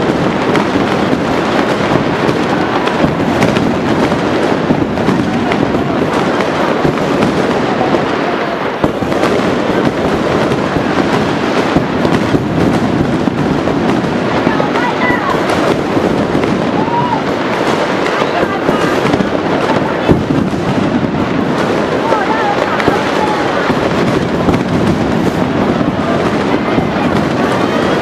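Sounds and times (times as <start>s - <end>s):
distant fireworks barrage: 0.0s - 28.0s.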